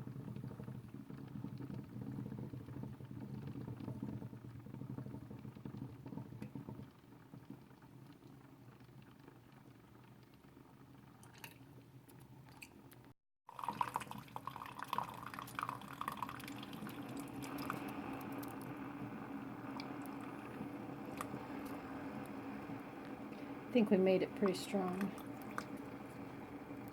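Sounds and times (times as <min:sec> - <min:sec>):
percolator bubbling: 0:00.0 - 0:26.9
coffee dripping: 0:00.1 - 0:26.9.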